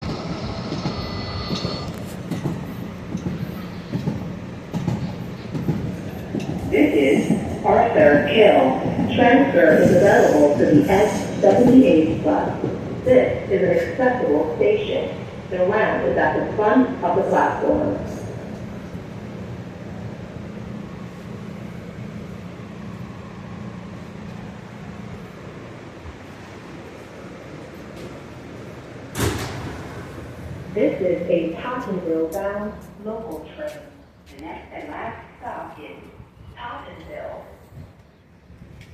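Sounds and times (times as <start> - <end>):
subway wheels rumbling on rail: 0.0 - 38.9.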